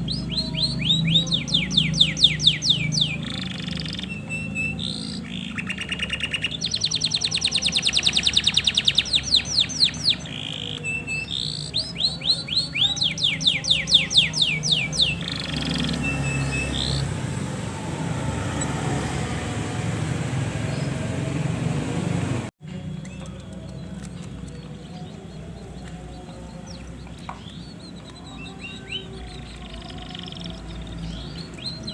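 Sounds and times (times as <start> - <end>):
canary singing trills: 0.0 - 21.8, 22.7 - 31.9.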